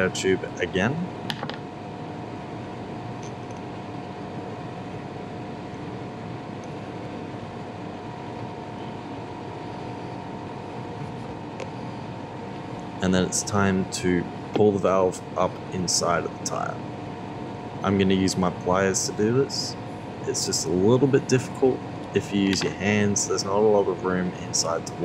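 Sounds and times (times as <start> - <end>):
fan humming: 0.0 - 25.0.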